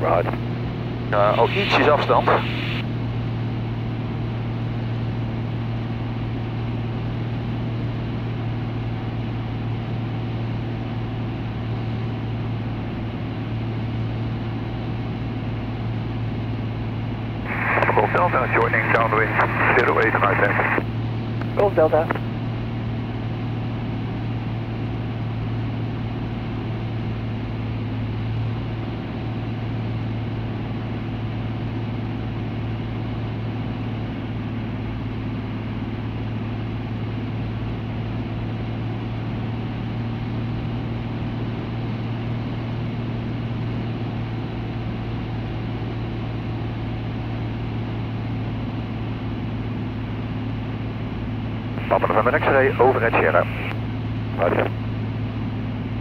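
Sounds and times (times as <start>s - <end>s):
aircraft engine drone in cockpit: 0.0s - 56.0s.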